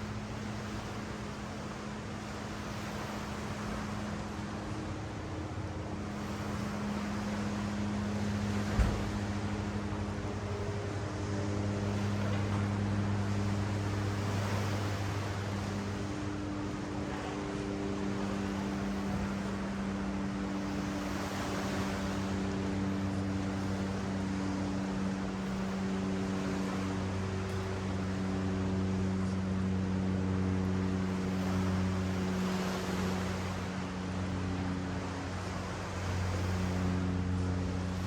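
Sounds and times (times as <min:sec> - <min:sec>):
low motor hum: 0:00.0 - 0:38.0
ocean waves on beach: 0:00.0 - 0:38.0.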